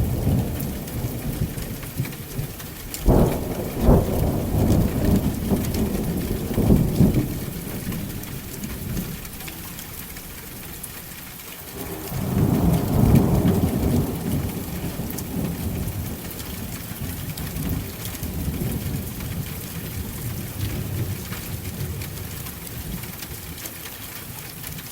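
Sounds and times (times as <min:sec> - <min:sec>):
thunder rumbling: 0:00.0 - 0:09.6, 0:11.7 - 0:23.0
steady rain: 0:00.0 - 0:24.9.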